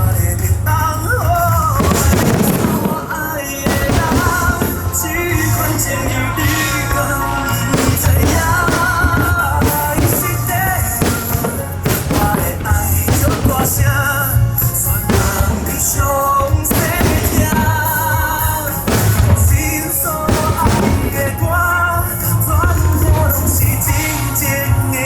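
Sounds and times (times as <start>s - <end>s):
drums: 0.0s - 25.0s
steady bass: 0.0s - 25.0s.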